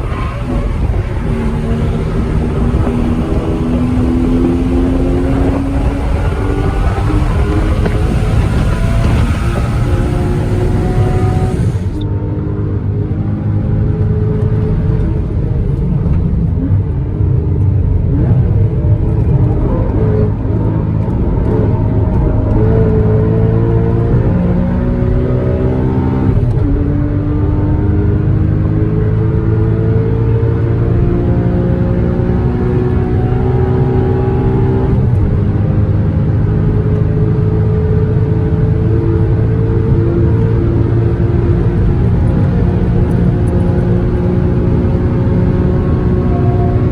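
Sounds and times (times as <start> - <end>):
car engine running hard: 0.0 - 46.9.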